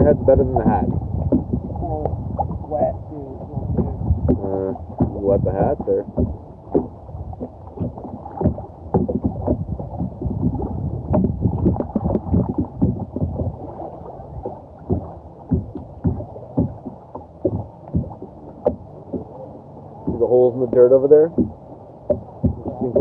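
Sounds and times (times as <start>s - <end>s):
kayak paddle splashes: 0.0s - 23.0s.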